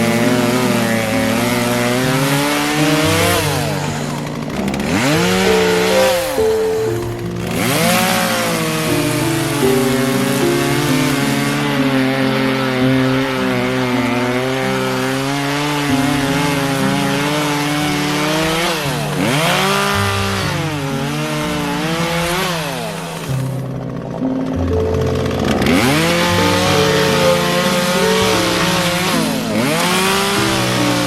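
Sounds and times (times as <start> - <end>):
chainsaw bogging down in cut: 0.0 - 31.0.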